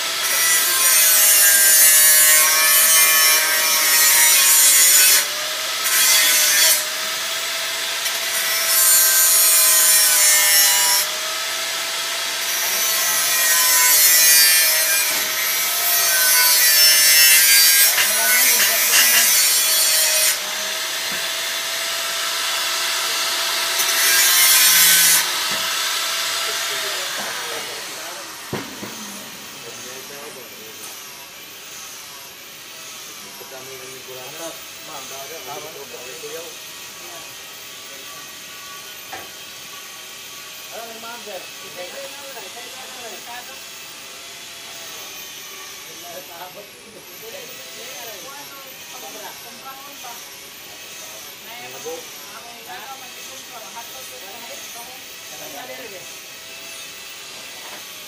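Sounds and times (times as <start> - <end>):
angle grinder whine: 0.0 - 58.0
grinder cutting metal hiss: 0.0 - 58.0.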